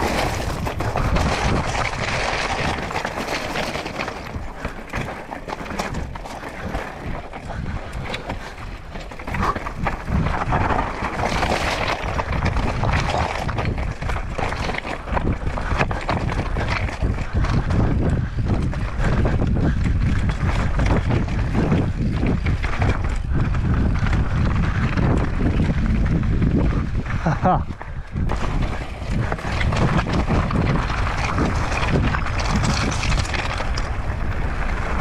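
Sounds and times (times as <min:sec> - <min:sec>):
bike rattling and knocking: 0:00.0 - 0:35.0
tyres crunching on gravel: 0:00.0 - 0:35.0
wind rushing over microphone: 0:00.0 - 0:35.0.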